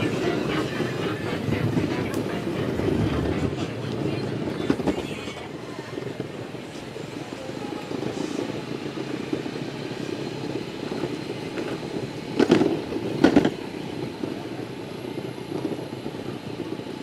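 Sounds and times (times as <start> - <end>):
skateboard wheels rumbling on pavement: 0.0 - 17.0.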